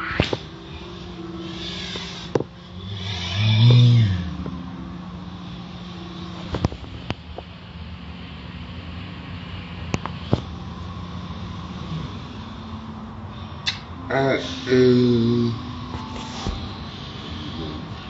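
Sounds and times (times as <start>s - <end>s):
car wash machine drone: 0.0s - 18.0s.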